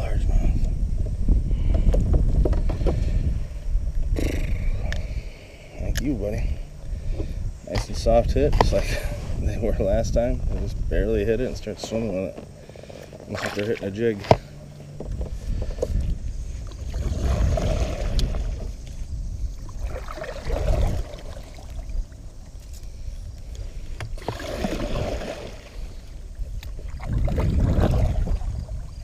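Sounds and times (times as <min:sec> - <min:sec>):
water around a boat: 0:00.0 - 0:29.0
wind: 0:00.0 - 0:29.0.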